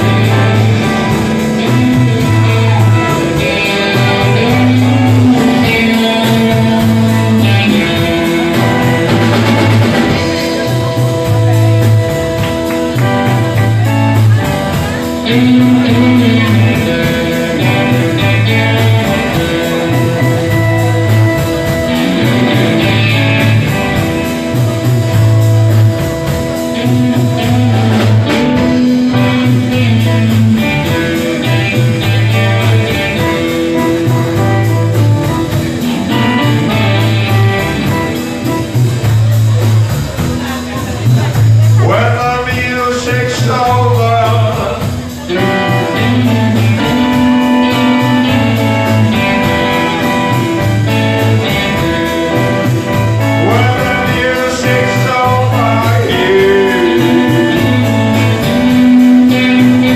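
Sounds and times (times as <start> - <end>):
electric guitar: 0.0 - 59.9
repeating bass line: 0.0 - 59.9.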